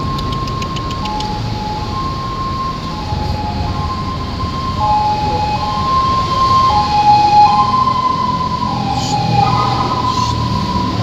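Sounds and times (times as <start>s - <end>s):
two-tone siren: 0.0s - 11.0s.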